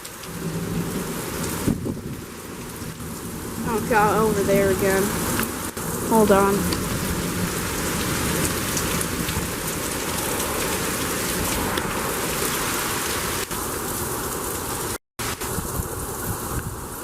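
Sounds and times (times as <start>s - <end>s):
heavy rain: 0.0s - 17.0s
gusty wind on microphone: 0.3s - 17.0s.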